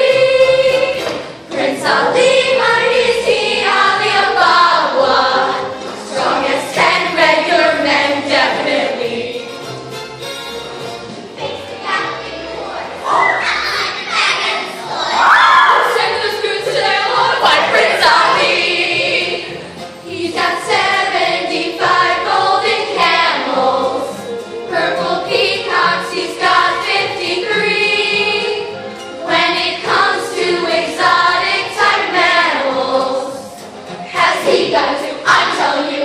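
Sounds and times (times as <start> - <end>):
children singing in chorus: 0.0 - 9.4, 13.2 - 33.5, 34.1 - 36.0.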